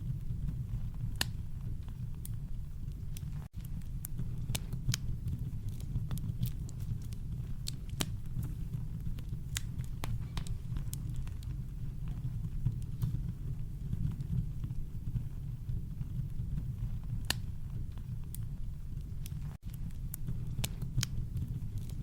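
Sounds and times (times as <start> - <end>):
campfire crackling: 0.0 - 22.0
low rumble of brown noise: 0.0 - 22.0.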